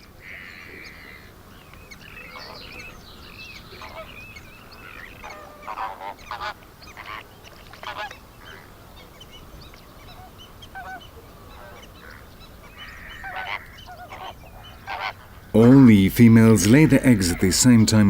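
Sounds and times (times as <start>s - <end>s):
flamingos honking: 0.0s - 18.0s.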